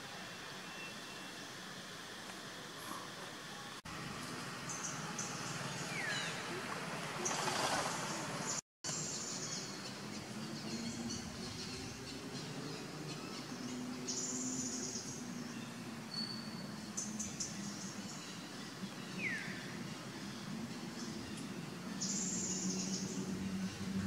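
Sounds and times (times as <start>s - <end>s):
birds chirping: 4.5s - 24.0s.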